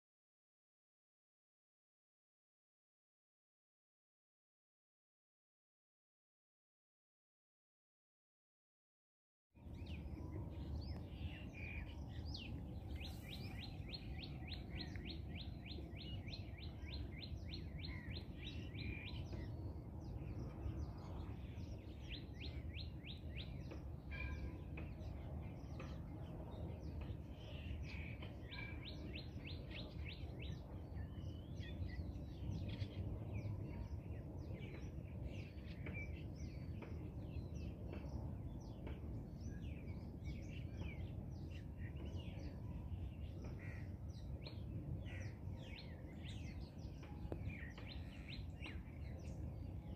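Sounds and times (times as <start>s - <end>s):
low outdoor rumble: 9.6s - 49.9s.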